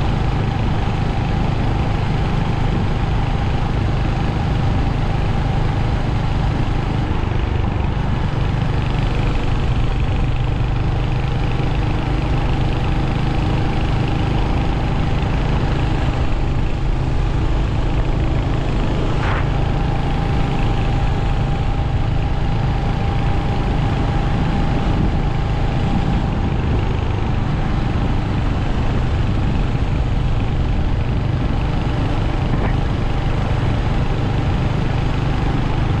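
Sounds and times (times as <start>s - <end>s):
motorcycle engine running steadily: 0.0s - 36.0s.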